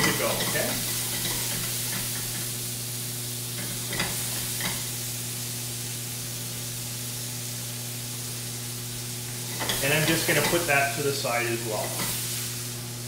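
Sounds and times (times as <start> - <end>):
tomatoes sizzling in frying pan: 0.0 - 13.0.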